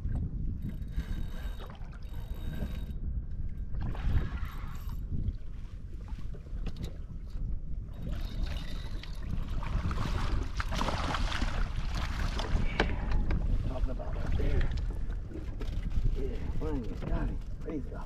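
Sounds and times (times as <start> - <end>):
water against a hull: 0.0 - 18.0
wind on the microphone: 0.0 - 18.0.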